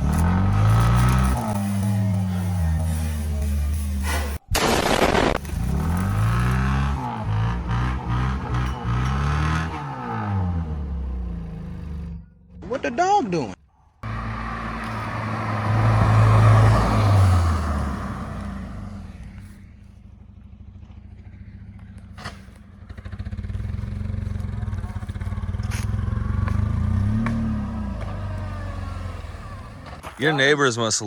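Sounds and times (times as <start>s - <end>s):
car engine revving and idling: 0.0s - 4.4s, 5.2s - 12.7s, 14.0s - 30.2s.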